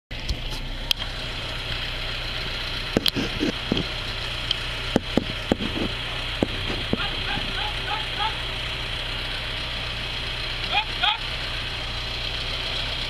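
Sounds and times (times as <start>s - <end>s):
car engine running at low revs: 0.1s - 13.0s.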